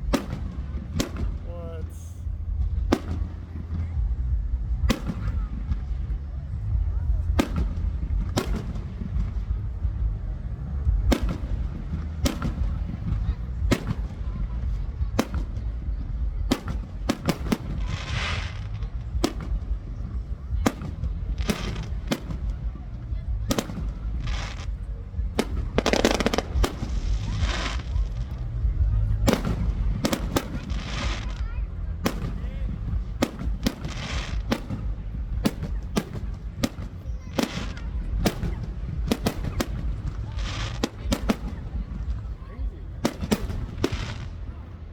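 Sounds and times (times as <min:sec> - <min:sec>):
fireworks bangs: 0:00.0 - 0:44.9
fireworks crackling: 0:00.0 - 0:44.9
low rumble: 0:00.0 - 0:44.9.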